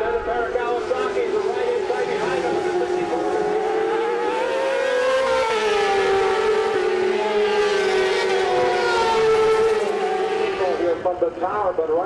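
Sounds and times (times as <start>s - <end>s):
racing motorcycle engines revving: 0.0s - 12.0s.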